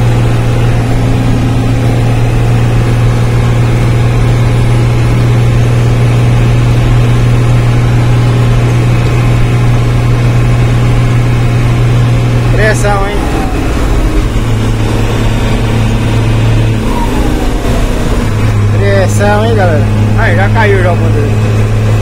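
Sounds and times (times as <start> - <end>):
diesel truck engine drone: 0.0 - 22.0.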